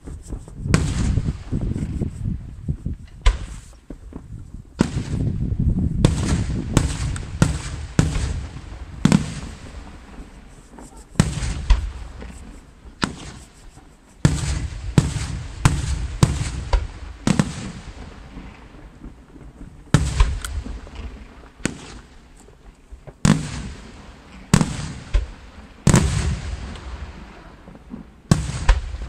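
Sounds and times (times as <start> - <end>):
firework bangs: 0.0 - 29.0.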